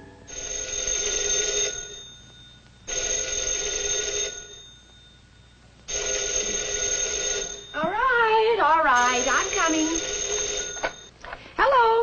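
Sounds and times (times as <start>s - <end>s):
telephone bell ringing: 0.3s - 8.3s, 8.9s - 11.1s.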